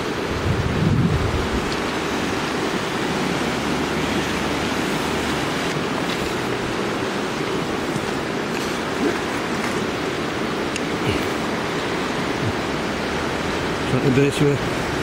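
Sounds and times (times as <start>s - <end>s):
river rushing over stones: 0.0s - 15.0s.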